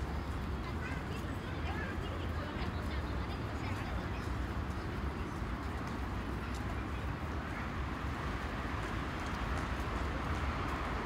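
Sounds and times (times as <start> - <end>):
city road traffic hum: 0.0 - 11.0.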